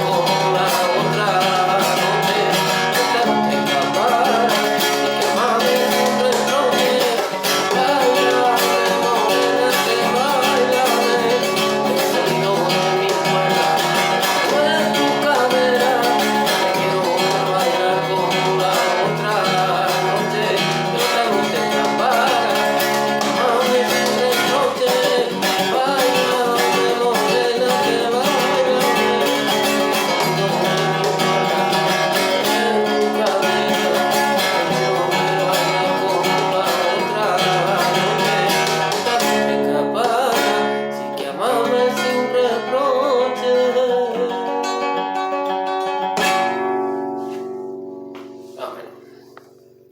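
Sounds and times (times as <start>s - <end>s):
guitar strings plucked: 0.0s - 49.9s.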